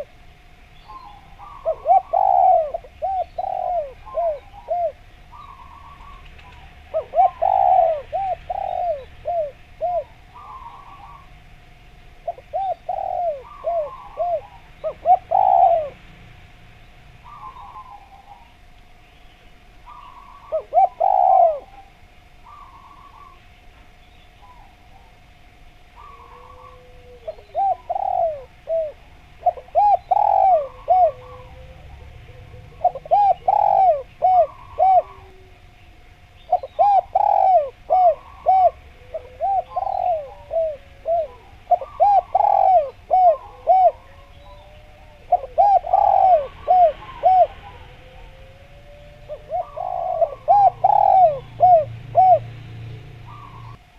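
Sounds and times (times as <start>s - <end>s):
dove cooing: 0.0s - 16.3s, 17.2s - 18.7s, 19.8s - 23.5s, 24.4s - 53.9s
small birds chirping: 0.0s - 53.9s.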